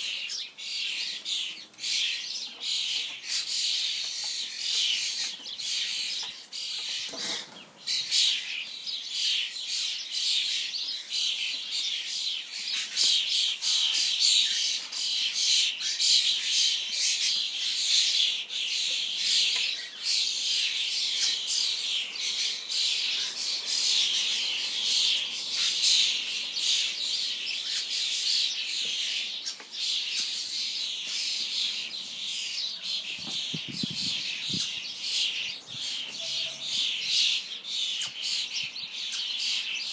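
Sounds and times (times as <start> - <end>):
starlings calling in chorus: 0.0 - 39.9.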